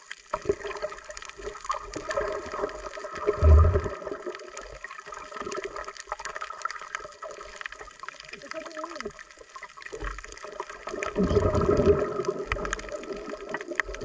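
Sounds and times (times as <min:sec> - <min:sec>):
small clicks and crackles: 0:00.0 - 0:14.0
water gurgling underwater: 0:00.0 - 0:14.0.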